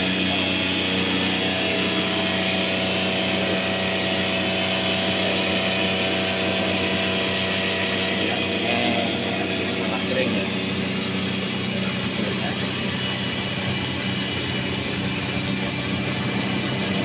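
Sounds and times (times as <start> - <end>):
electric motor humming: 0.0 - 17.0.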